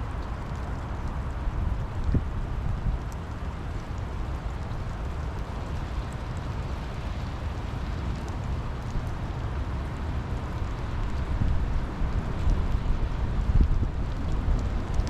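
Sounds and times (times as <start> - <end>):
faint raindrop ticks: 0.0 - 15.0
steady rain: 0.0 - 15.0.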